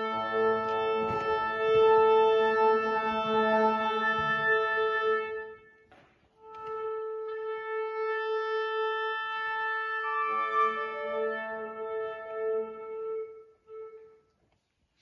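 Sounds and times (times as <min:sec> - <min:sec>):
wind quintet holding chords: 0:00.0 - 0:05.8, 0:06.4 - 0:14.4.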